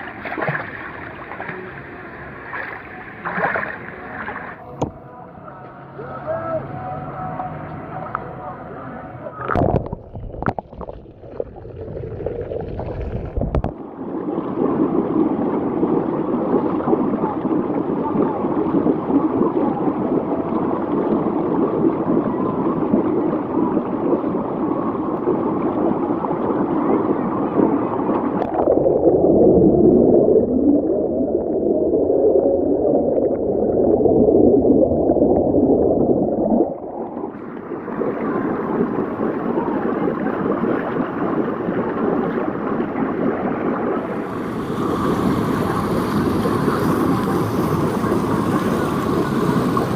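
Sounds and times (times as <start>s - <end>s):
water rushing and gurgling: 0.0s - 49.9s.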